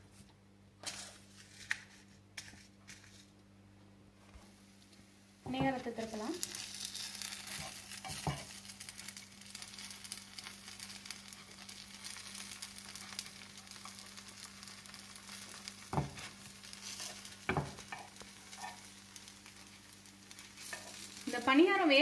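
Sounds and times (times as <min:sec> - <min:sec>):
batter sizzling in oil: 0:04.3 - 0:22.0.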